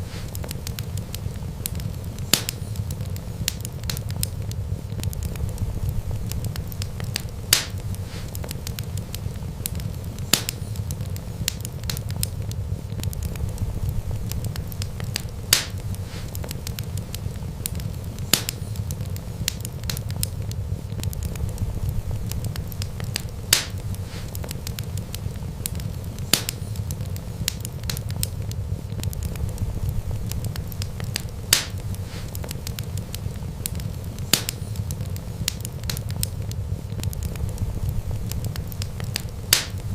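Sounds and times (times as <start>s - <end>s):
fire crackling pops: 0.0s - 39.9s
low rumble of flames: 0.0s - 39.9s.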